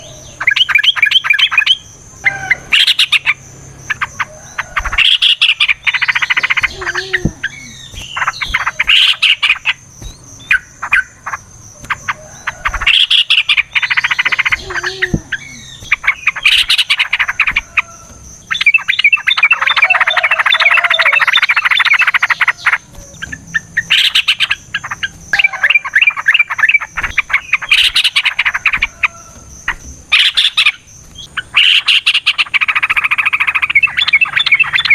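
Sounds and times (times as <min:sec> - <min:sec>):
bird singing in chattering bursts: 0:00.0 - 0:34.9.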